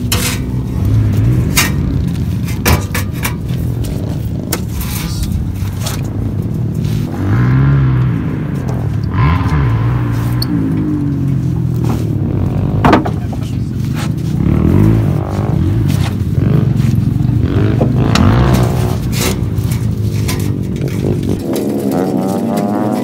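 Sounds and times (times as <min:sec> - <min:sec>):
sharp knocks and clatters: 0:00.0 - 0:06.8, 0:08.0 - 0:23.0
dirt bike engine revving: 0:00.0 - 0:23.0.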